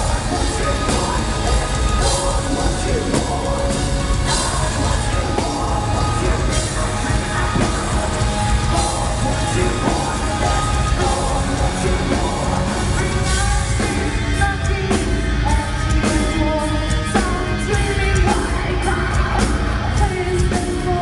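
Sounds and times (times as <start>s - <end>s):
bass: 0.0s - 21.0s
distorted electric guitars: 0.0s - 21.0s
drums: 0.0s - 21.0s.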